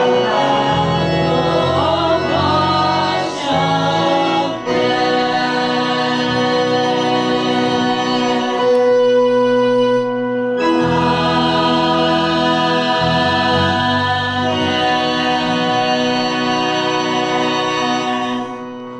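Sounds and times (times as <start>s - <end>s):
congregation singing a hymn: 0.0s - 18.9s.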